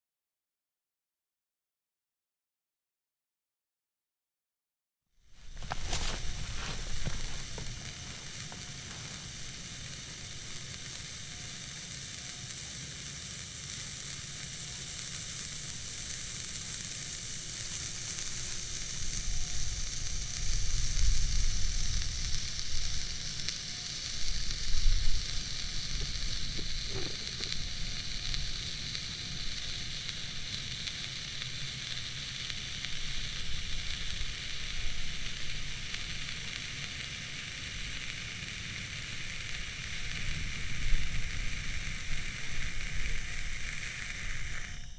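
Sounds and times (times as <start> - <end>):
firework stick sizzling hiss: 5.2 - 44.9.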